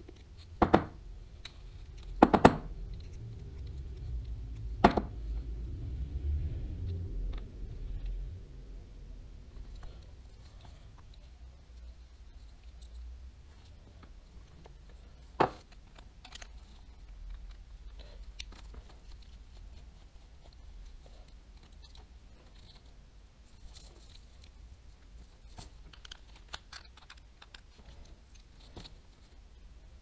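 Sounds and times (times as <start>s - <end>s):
small parts clicking and tapping: 0.0s - 5.2s, 9.6s - 29.4s
steady low hum: 0.0s - 30.0s.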